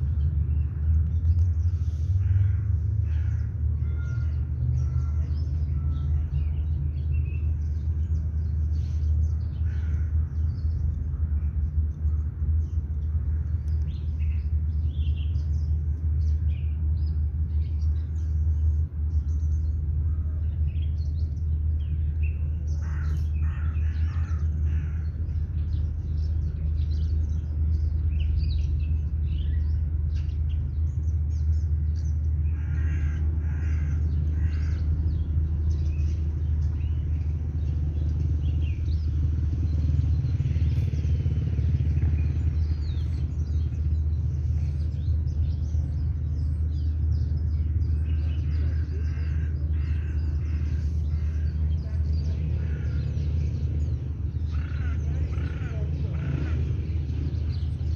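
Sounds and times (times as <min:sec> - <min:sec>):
birds chirping and calling: 0:00.0 - 0:57.9
steady low rumble: 0:00.0 - 0:57.9.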